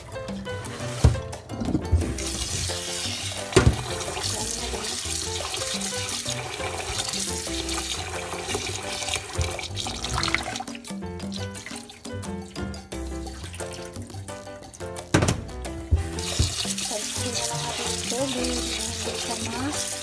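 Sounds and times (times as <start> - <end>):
background music: 0.0 - 20.0
tap water running into sink: 0.0 - 20.0.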